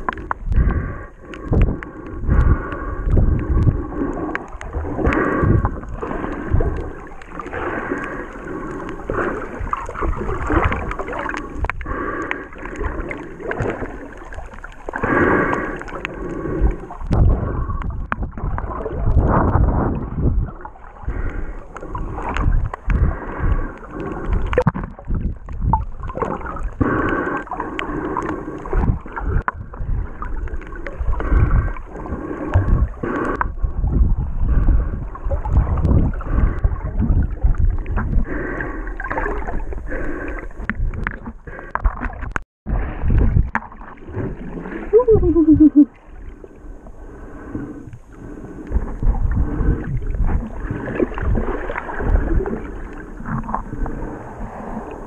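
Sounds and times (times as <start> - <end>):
underwater water sloshing over rocks: 0.0 - 55.0.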